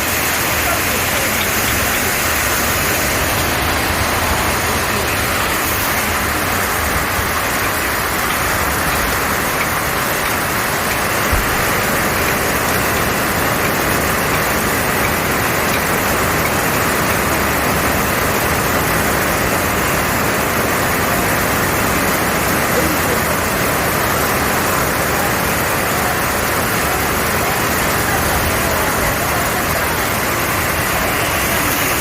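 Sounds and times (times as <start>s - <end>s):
heavy rain hiss: 0.0s - 32.0s.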